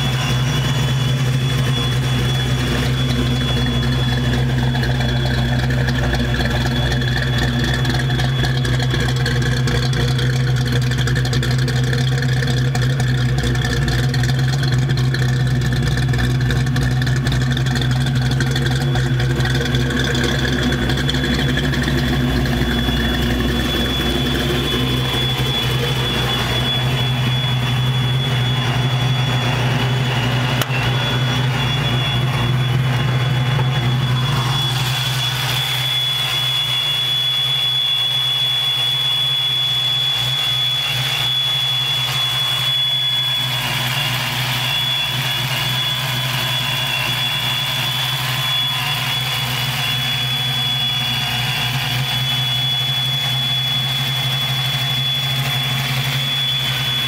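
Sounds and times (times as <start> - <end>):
car engine idling: 0.0 - 57.0
supercharger whine: 0.0 - 57.0.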